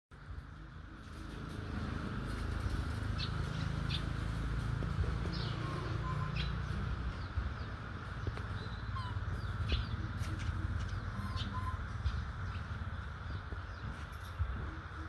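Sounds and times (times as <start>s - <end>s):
small birds chirping: 0.2s - 15.0s
steady low rumble: 0.2s - 15.0s.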